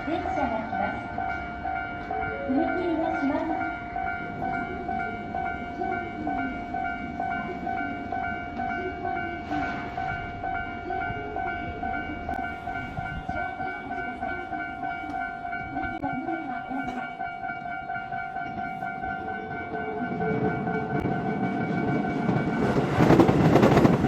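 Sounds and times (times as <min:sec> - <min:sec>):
railway crossing warning bell: 0:00.0 - 0:24.0.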